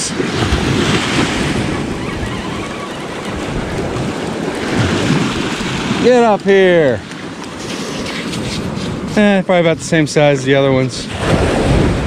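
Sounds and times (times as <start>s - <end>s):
small waves breaking on beach: 0.0s - 10.0s, 11.0s - 12.0s
wind rumbling on microphone: 0.0s - 12.0s.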